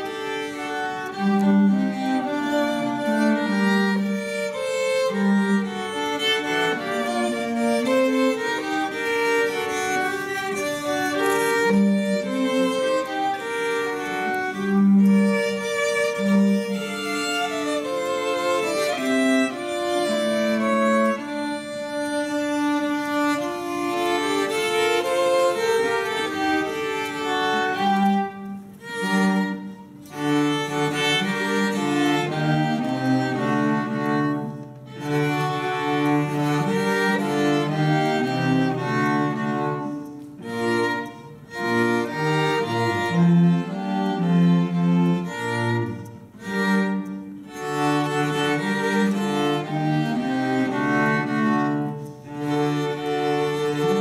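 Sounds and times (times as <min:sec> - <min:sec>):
string quartet playing: 0:00.0 - 0:54.0.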